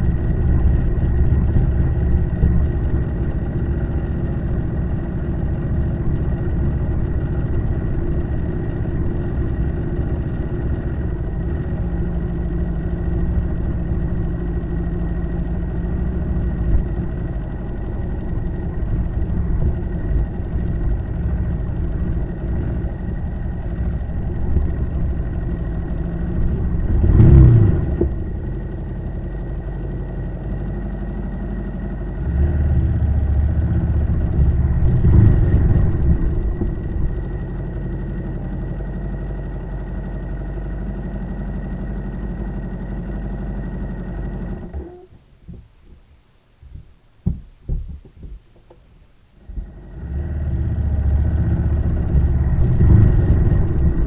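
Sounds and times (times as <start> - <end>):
motorcycle engine running: 0.0 - 45.7, 49.4 - 54.0.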